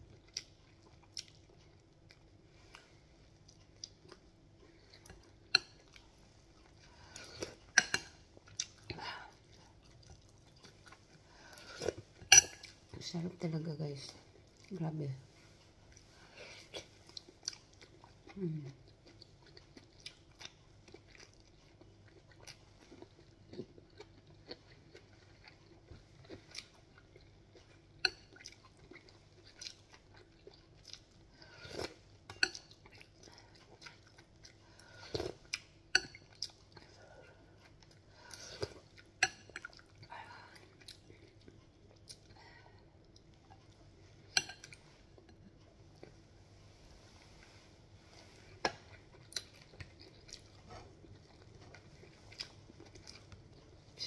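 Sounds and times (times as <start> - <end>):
person chewing with mouth noises: 0.0 - 13.0, 15.5 - 46.3, 47.0 - 54.0
faint steady hum: 0.0 - 54.0.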